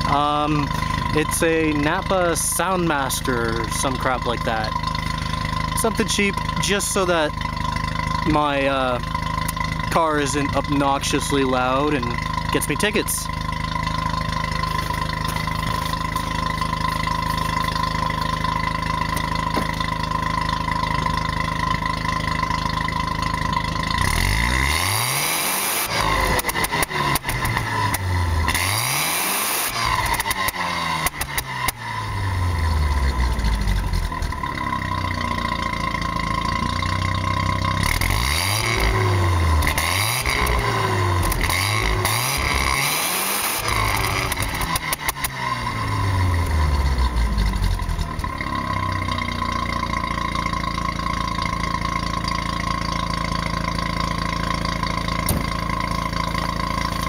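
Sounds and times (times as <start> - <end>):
rotary engine exhaust revving: 0.0 - 57.0.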